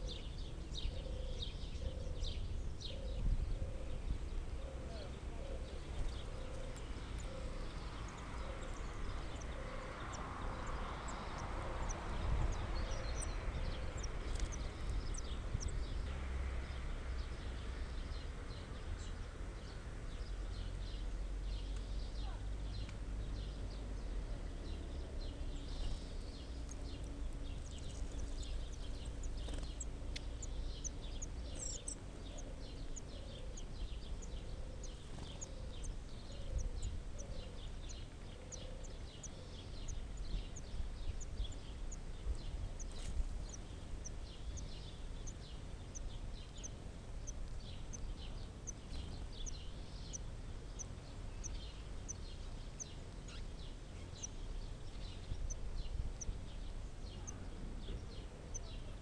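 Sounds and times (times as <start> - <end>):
low background rumble: 0.0 - 59.0.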